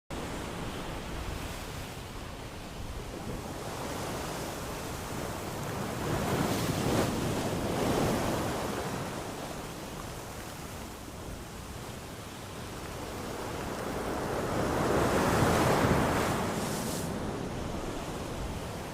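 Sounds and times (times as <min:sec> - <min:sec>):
ocean waves washing in: 0:00.2 - 0:18.9.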